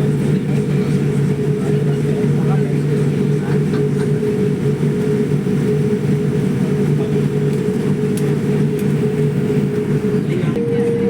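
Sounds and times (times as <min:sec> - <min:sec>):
aeroplane cabin engine drone: 0:00.0 - 0:11.0.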